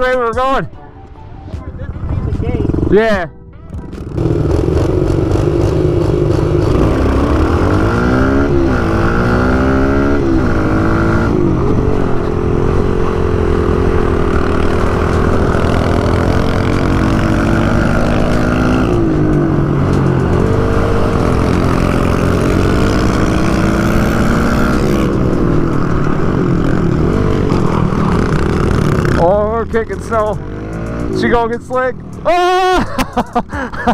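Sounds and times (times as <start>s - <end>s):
pit bike engine revving: 3.8s - 33.9s.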